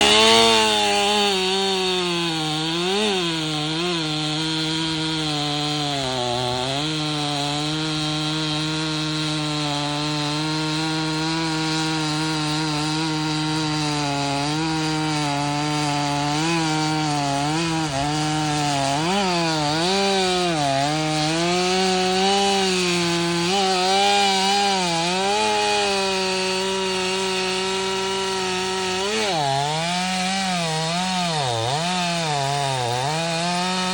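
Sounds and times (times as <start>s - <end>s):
chainsaw cutting through wood: 0.0s - 33.9s.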